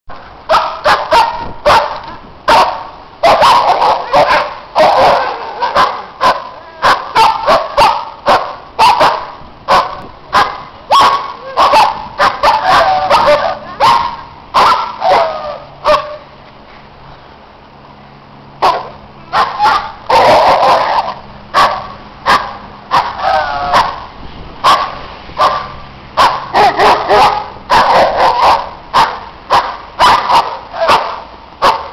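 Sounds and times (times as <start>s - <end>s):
dogs barking: 0.5s - 16.2s, 18.6s - 31.9s.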